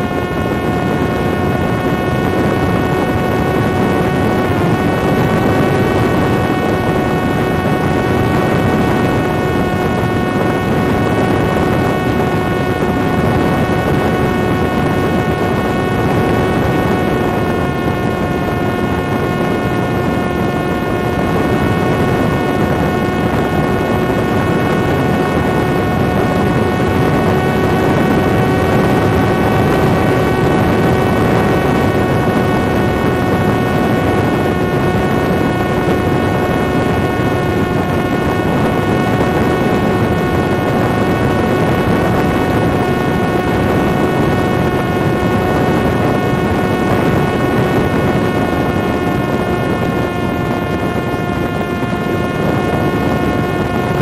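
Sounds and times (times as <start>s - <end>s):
drone motor whine: 0.0s - 54.0s
rush of wind: 0.0s - 54.0s.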